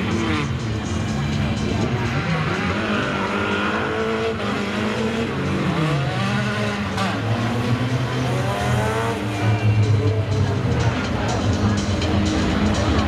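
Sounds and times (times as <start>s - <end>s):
racing car engines revving: 0.0s - 13.0s.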